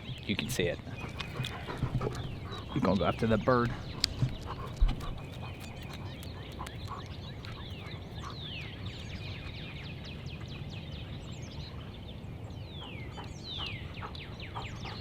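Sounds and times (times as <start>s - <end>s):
wild birds calling: 0.0s - 15.0s.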